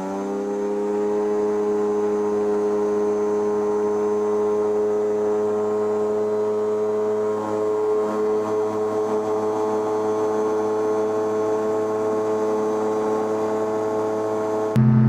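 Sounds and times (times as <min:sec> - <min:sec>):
two-stroke engine at full power: 0:00.0 - 0:15.0.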